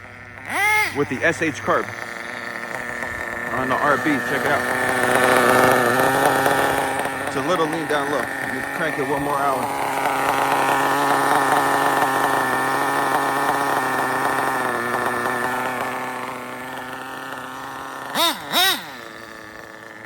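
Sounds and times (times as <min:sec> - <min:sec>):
nitro engine running and revving: 0:00.0 - 0:20.0.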